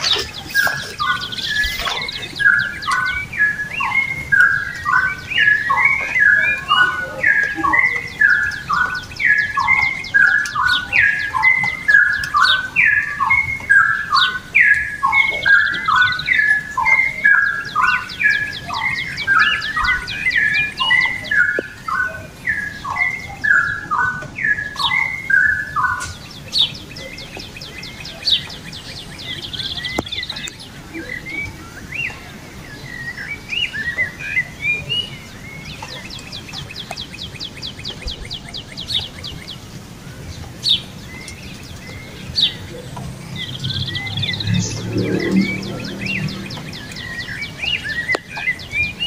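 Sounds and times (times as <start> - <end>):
songbirds singing: 0.0 - 49.0.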